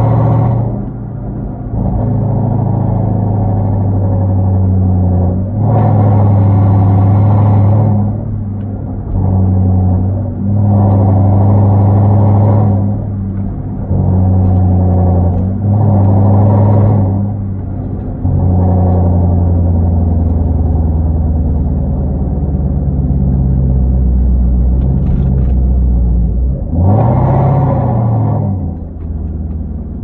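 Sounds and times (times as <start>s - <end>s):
car engine exhaust drone: 0.0s - 30.0s.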